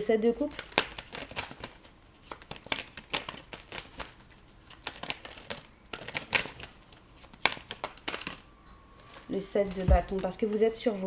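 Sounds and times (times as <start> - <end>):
cards being shuffled: 0.5 - 8.4, 9.0 - 10.7.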